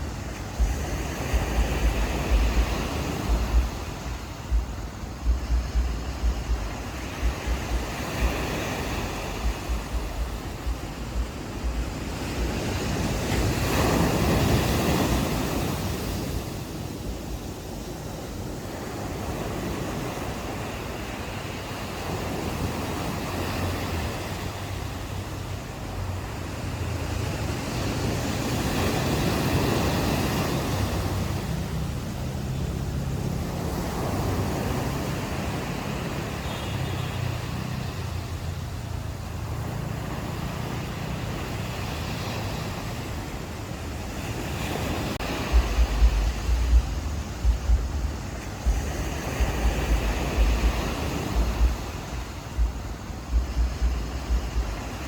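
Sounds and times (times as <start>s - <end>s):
ocean waves washing onto beach: 0.0s - 55.0s
wind buffeting microphone: 0.0s - 55.0s.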